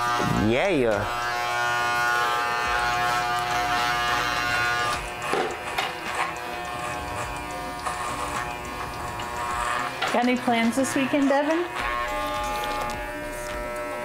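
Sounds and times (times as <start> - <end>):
electric hair clippers buzzing: 0.0 - 14.0.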